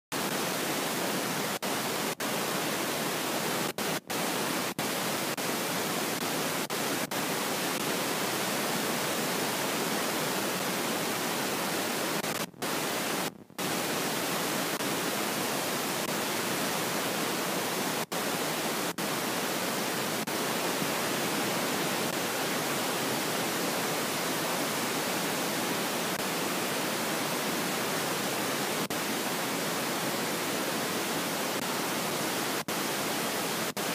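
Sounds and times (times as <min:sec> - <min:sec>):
static hiss: 0:00.1 - 0:33.9.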